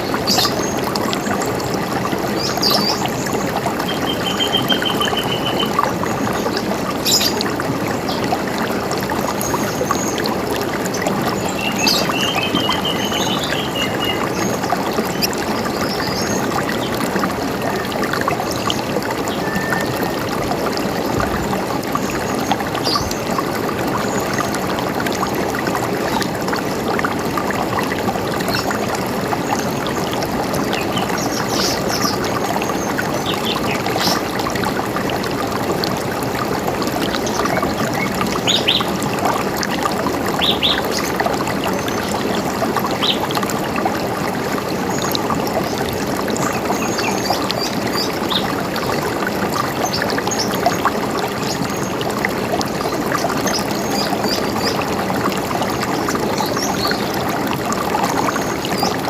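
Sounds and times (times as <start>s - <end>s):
river running: 0.0s - 59.0s.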